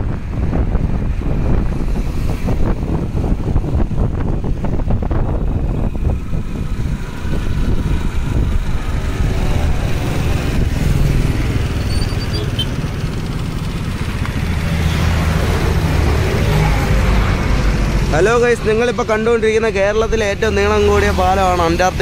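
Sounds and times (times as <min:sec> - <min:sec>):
motorcycle engine cruising: 0:00.0 - 0:19.4
wind rushing over microphone: 0:00.0 - 0:22.0.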